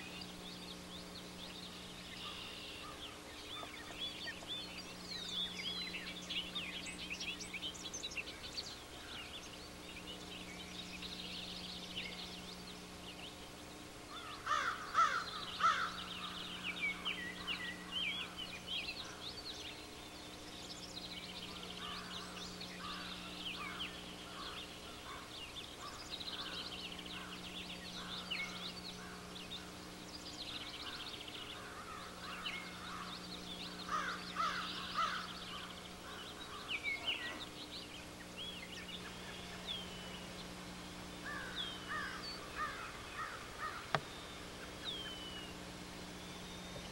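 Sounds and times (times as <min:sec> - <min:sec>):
birds chirping: 0:00.0 - 0:46.9
harsh bird calls: 0:00.0 - 0:46.9
steady low hum: 0:00.0 - 0:46.9.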